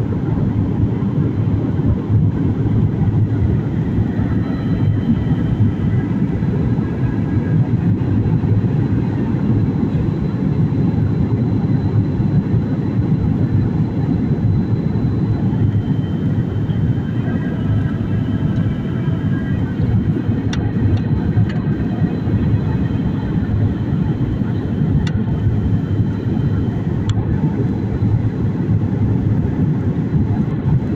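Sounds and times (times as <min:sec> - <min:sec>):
airliner engine roar: 0:00.0 - 0:30.9.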